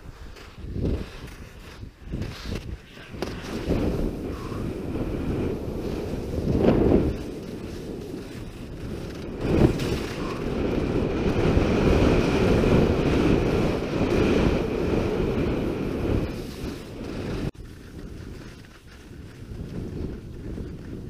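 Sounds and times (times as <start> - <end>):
skis scraping over crusted snow: 0.0 - 21.0
wind buffeting microphone: 0.0 - 21.0.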